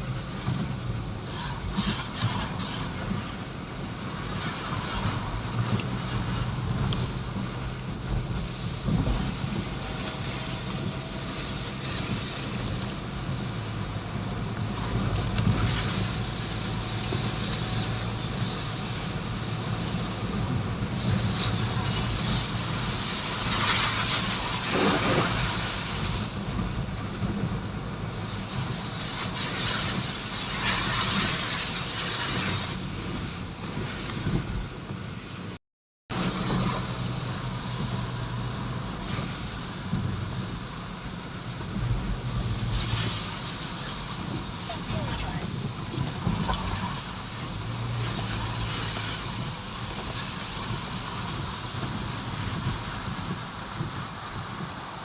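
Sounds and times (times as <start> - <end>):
low engine hum: 0.0 - 55.0
road and wind noise: 0.0 - 55.0.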